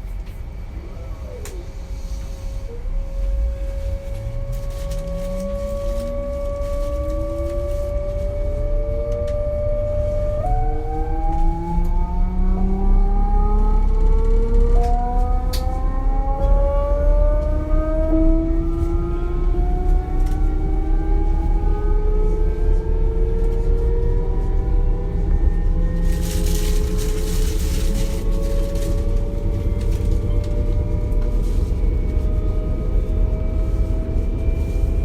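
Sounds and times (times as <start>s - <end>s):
low rumble of running train: 0.0s - 35.0s.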